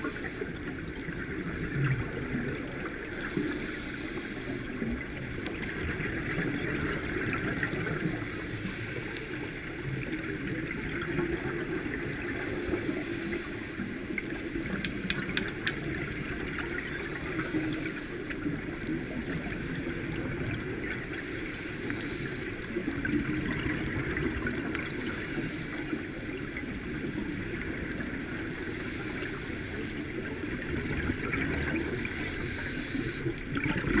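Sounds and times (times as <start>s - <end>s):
water rushing and lapping: 0.0s - 34.0s.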